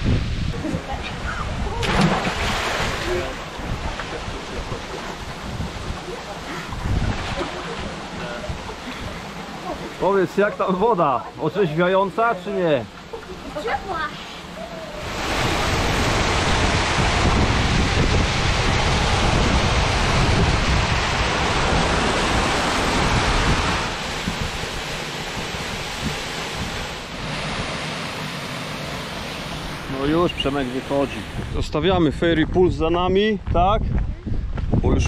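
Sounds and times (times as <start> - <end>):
wind buffeting microphone: 0.0 - 9.9, 13.7 - 27.8, 29.3 - 35.0
running water at waterfall: 0.0 - 31.6.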